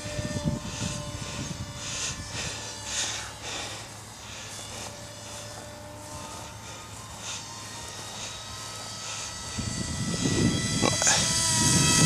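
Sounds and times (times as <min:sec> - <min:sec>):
model airplane motor whine: 0:00.0 - 0:12.0.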